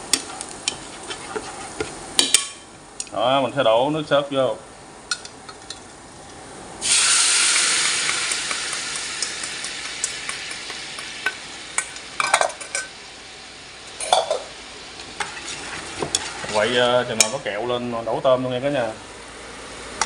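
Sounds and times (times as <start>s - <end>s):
sauce sizzling in frying pan: 0.0s - 3.0s, 5.0s - 17.5s, 18.4s - 20.0s.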